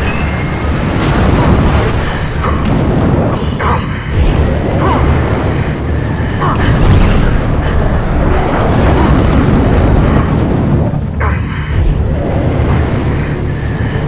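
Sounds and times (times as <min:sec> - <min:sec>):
loud low rumble: 0:00.0 - 0:14.0.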